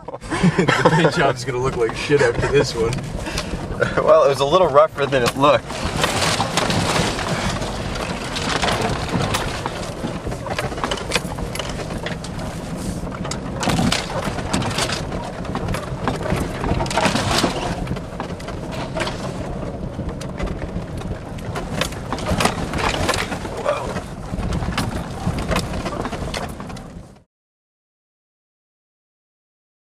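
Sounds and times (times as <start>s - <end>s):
engine and tyres rumbling: 0.0s - 27.3s
brush scraping vehicle sides: 0.4s - 27.2s
body knocks and rattles: 0.6s - 27.3s.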